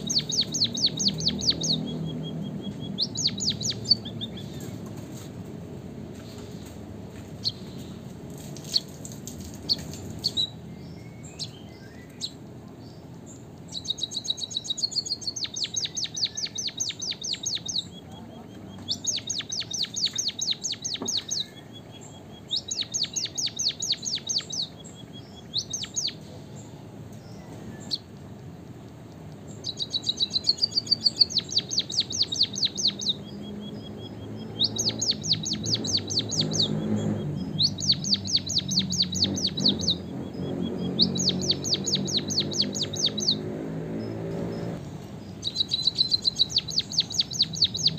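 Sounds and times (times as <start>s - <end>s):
bird chirping rapidly: 0.0s - 4.8s, 7.3s - 28.4s, 29.4s - 47.9s.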